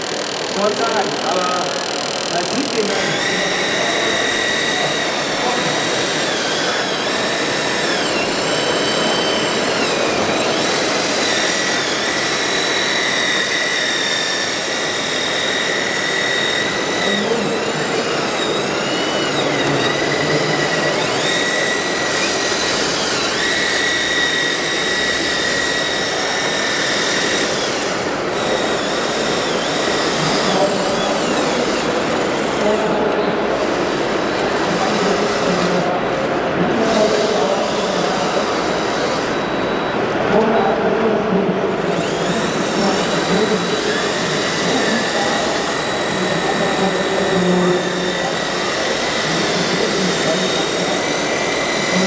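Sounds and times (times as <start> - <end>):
hydraulic pump and motors whining: 0.0 - 52.0.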